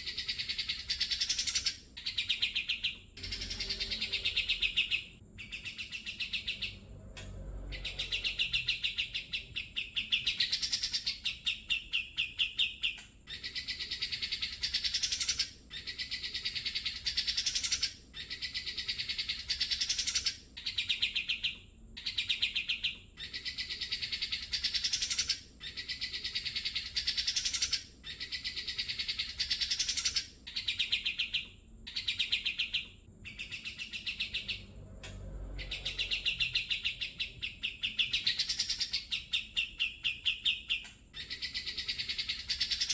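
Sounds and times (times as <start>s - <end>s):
bird singing buzzy trills: 0.0s - 42.9s.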